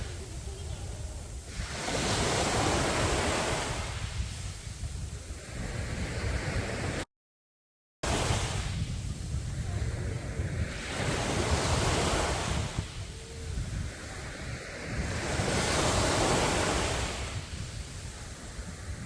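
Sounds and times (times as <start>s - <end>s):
sea waves breaking on beach: 0.0s - 7.0s, 8.0s - 19.0s
wind rumbling on microphone: 0.0s - 7.0s, 8.0s - 19.0s.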